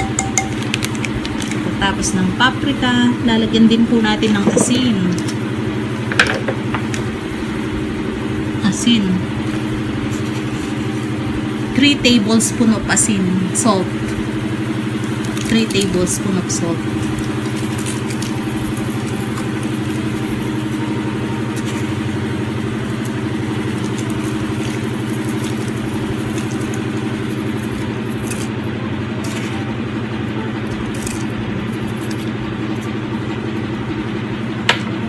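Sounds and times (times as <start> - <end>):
motor buzzing drone: 5.1 - 35.0.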